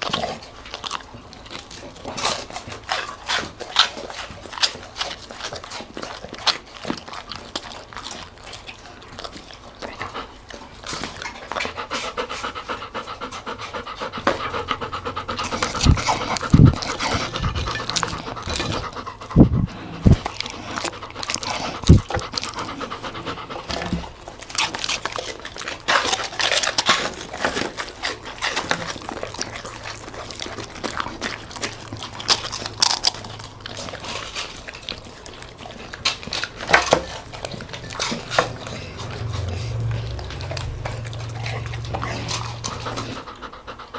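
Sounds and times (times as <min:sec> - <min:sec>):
dog crunching food: 0:00.0 - 0:43.9
dog panting: 0:00.0 - 0:43.9.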